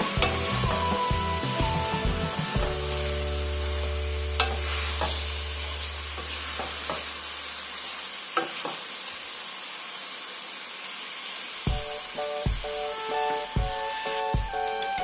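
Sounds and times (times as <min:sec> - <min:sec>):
vegetables sizzling in a pot: 0:00.0 - 0:15.0.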